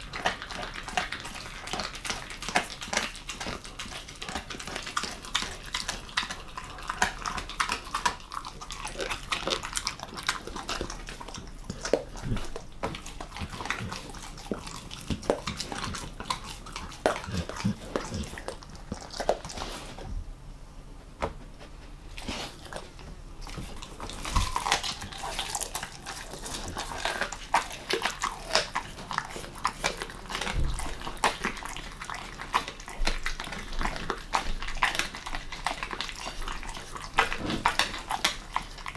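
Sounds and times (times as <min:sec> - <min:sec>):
dog chewing raw fish: 0:00.0 - 0:20.1, 0:22.1 - 0:38.9.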